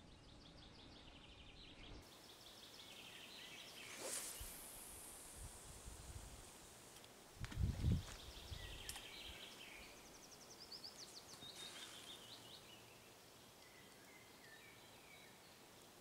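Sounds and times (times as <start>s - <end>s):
small birds chirping: 0.0s - 5.2s, 6.6s - 16.0s
background hiss: 2.0s - 16.0s.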